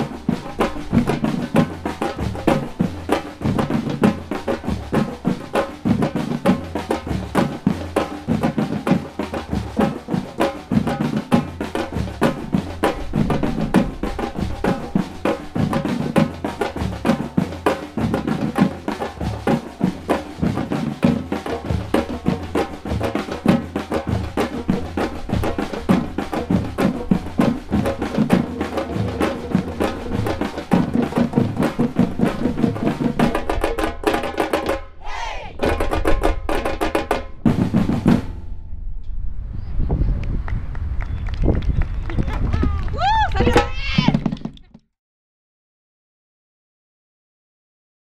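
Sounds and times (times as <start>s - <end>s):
drum ensemble playing merengue: 0.0s - 38.5s, 43.0s - 44.4s.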